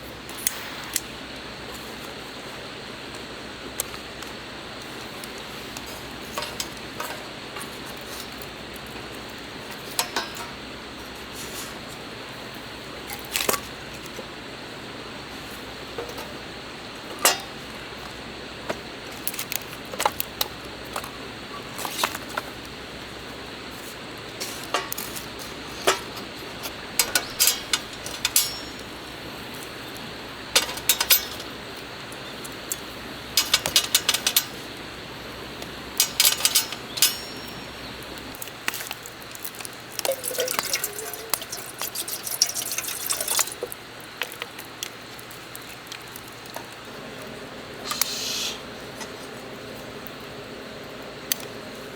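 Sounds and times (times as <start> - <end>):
faint steady hiss: 0.0 - 51.9
camp cooking gear clinking: 3.2 - 11.4, 12.1 - 51.8.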